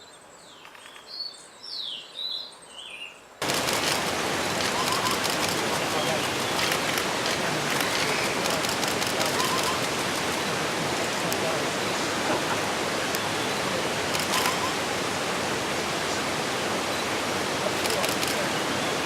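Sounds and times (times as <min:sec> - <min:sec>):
rushing water: 0:03.4 - 0:19.0.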